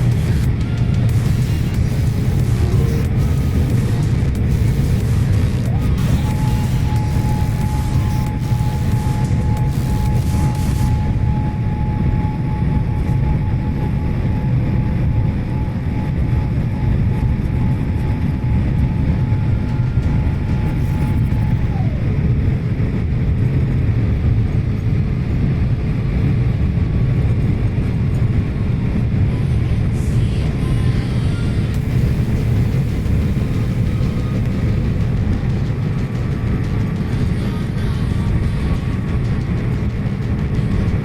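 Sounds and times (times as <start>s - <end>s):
airliner engine and airflow roar: 0.0s - 41.0s.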